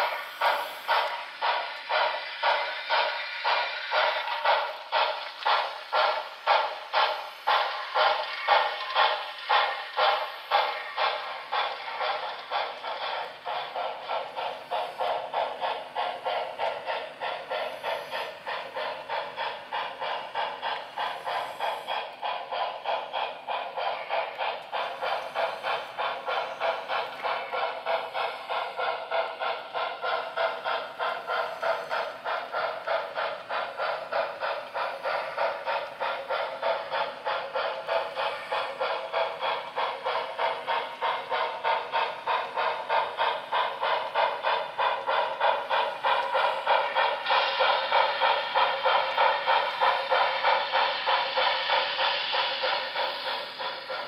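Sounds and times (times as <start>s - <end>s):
model steam locomotive chuffing: 0.0s - 54.0s.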